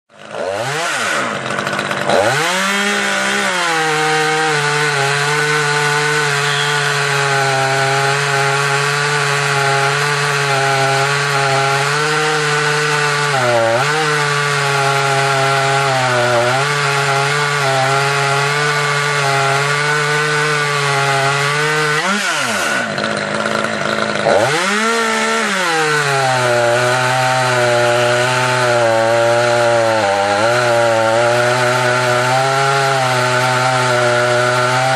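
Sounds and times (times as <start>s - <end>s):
chainsaw cutting through log: 0.1s - 34.9s.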